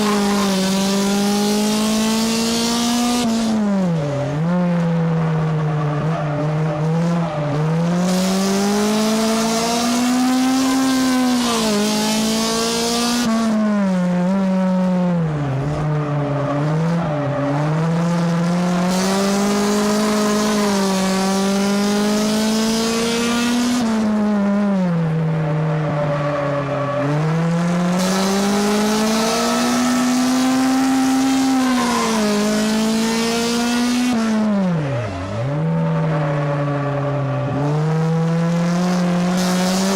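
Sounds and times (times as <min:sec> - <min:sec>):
race car engine at speed: 0:00.0 - 0:39.9.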